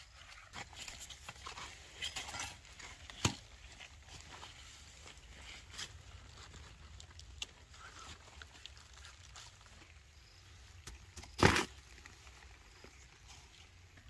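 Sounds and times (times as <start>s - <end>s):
rustling of vines and leaves: 0.0s - 14.0s.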